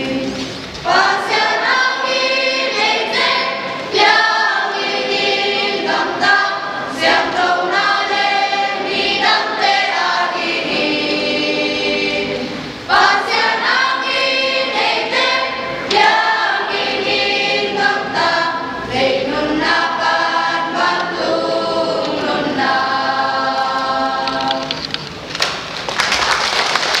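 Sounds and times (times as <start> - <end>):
choir singing a hymn: 0.0 - 24.9.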